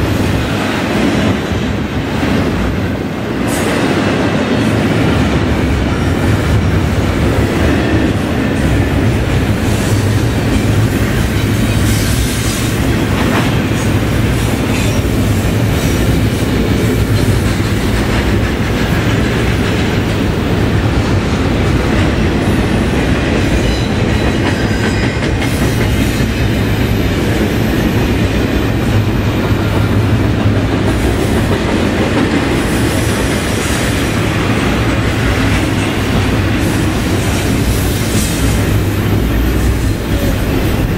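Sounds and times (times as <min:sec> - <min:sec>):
freight train wheels rolling: 0:00.0 - 0:40.9.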